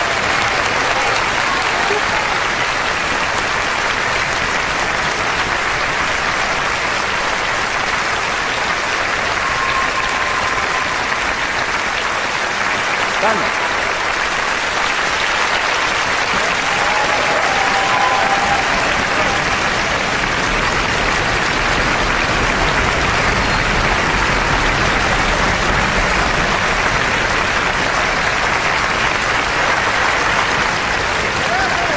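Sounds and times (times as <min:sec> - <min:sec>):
large audience applauding: 0:00.0 - 0:31.9.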